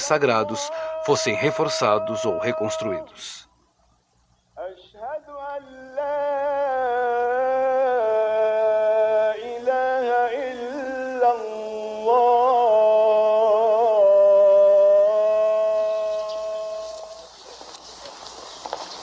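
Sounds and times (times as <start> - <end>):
man chanting a prayer: 0.0 - 3.5, 4.6 - 17.2.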